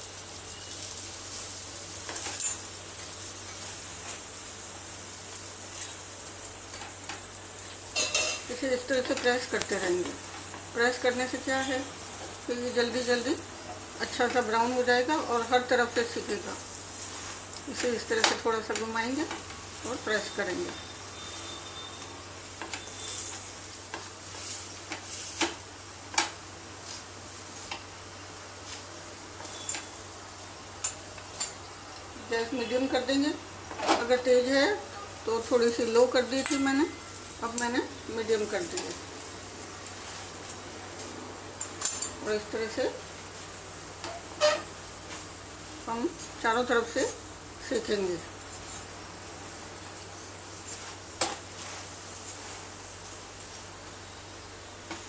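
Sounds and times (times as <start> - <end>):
oil sizzling in a pan: 0.0 - 55.0.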